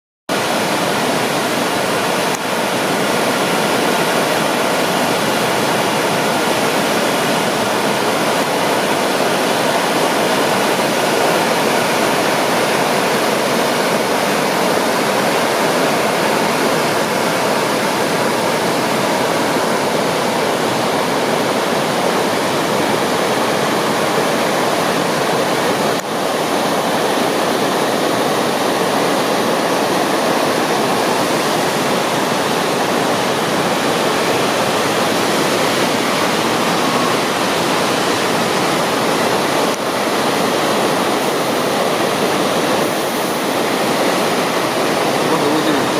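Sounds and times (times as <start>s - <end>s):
rushing river in flood: 0.3s - 45.9s.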